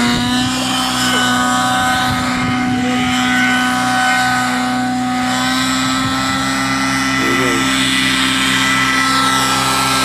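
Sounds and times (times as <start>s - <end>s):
model helicopter engine and rotor: 0.0s - 10.0s.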